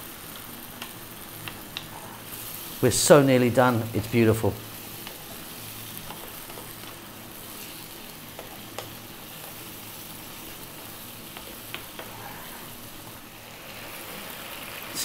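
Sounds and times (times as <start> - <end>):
sauce sizzling in a frying pan: 0.0 - 15.0.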